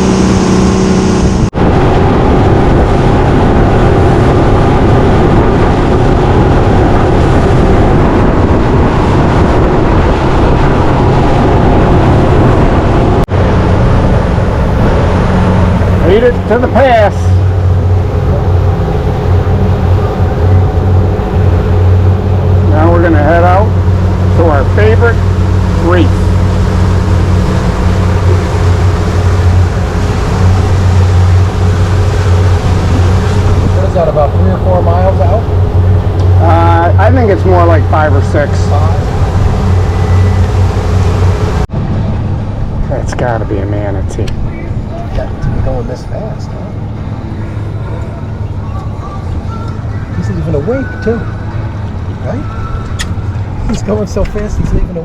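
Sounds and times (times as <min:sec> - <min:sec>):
motorboat engine droning: 0:00.0 - 0:55.0
water rushing: 0:00.0 - 0:55.0
wind noise: 0:00.0 - 0:55.0.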